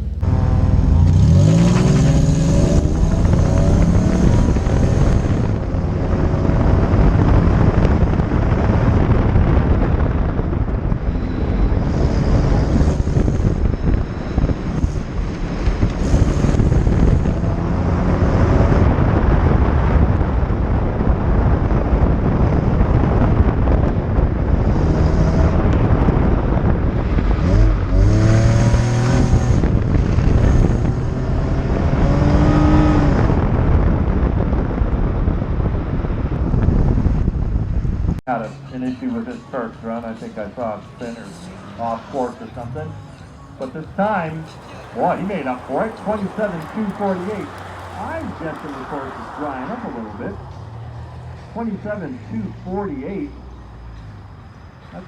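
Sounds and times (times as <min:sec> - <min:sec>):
car engine revving: 0:00.0 - 0:55.0
road and wind noise: 0:00.0 - 0:55.0.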